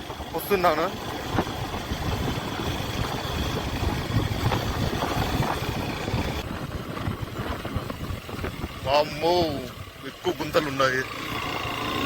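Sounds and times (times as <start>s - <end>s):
motorcycle engine rumble: 0.0s - 12.0s
road and wind noise: 0.0s - 12.0s.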